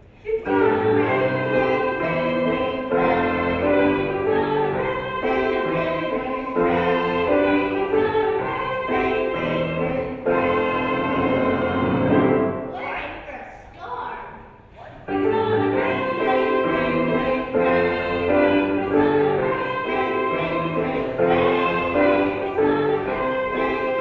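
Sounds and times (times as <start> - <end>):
children's choir singing: 0.0 - 12.7, 15.0 - 24.0.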